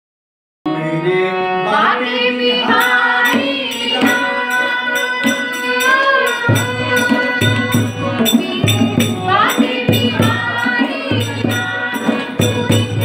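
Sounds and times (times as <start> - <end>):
women singing together: 1.6 - 13.0.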